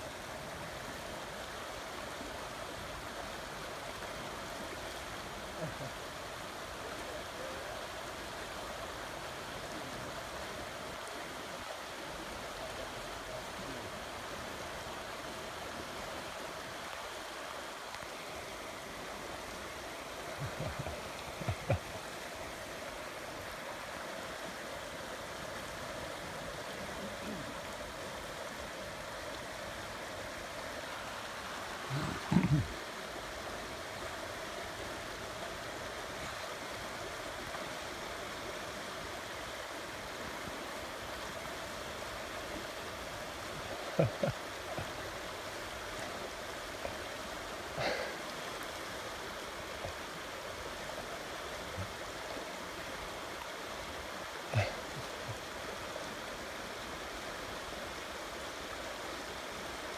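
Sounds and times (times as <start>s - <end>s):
river rushing over cobbles: 0.0s - 59.9s.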